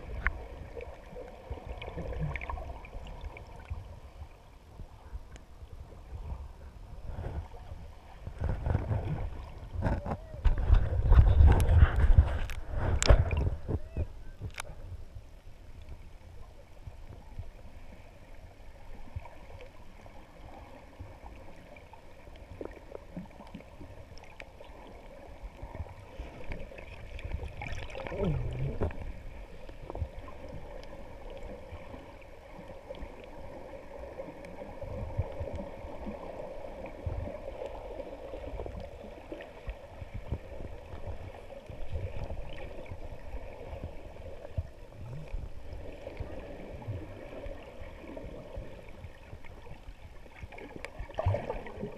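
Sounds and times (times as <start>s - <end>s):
faint clicks and gurgles: 0.0s - 5.7s, 6.3s - 51.9s
underwater rumble of moving water: 0.0s - 51.9s.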